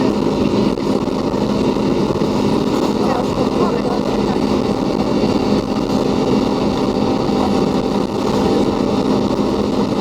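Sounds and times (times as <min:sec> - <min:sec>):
jet engines at high thrust: 0:00.0 - 0:10.0.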